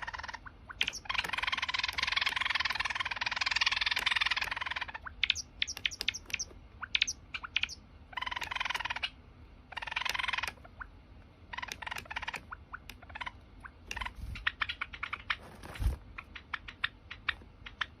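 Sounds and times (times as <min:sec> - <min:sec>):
sparrow clicking notes: 0:00.0 - 0:09.1, 0:11.6 - 0:18.0
sparrow chattering trill: 0:00.0 - 0:10.9, 0:11.5 - 0:18.0.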